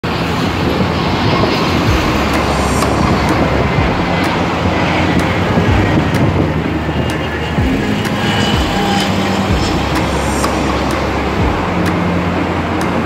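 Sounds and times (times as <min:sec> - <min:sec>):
jet airliner roar: 0:00.0 - 0:13.0
wind buffeting microphone: 0:00.0 - 0:13.0.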